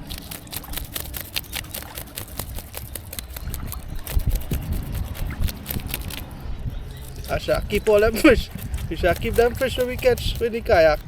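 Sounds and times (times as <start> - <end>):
knife scraping fish scales: 0.0 - 11.0.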